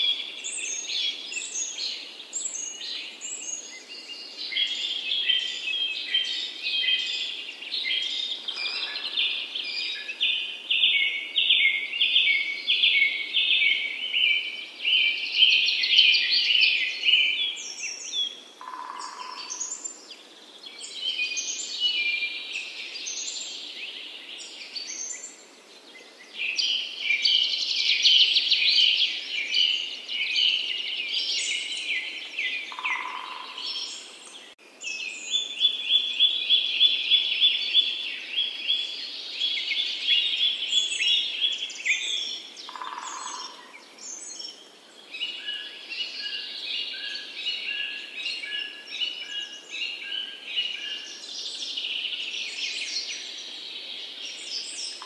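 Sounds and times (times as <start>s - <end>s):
wild birds chirping and trilling: 0.0s - 55.0s.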